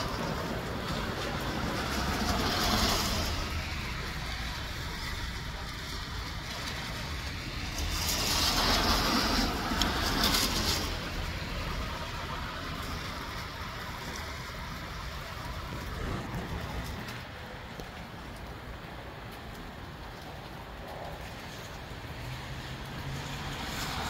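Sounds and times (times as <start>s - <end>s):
wind through palm fronds: 0.0s - 24.0s.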